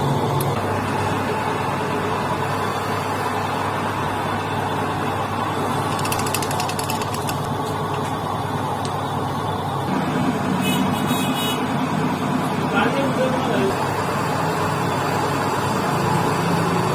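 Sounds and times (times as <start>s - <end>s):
workshop machine humming: 0.0s - 16.9s.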